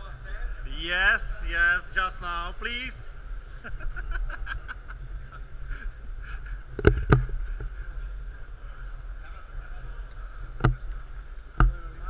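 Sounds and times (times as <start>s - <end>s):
faint distant chatter: 0.0s - 12.0s
steady low hum: 0.0s - 12.0s.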